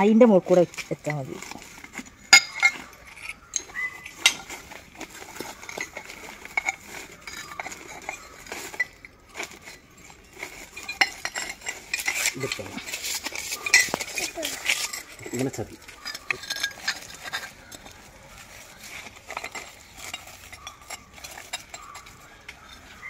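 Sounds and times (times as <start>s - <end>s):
ceramic tiles clinking: 0.0s - 23.0s.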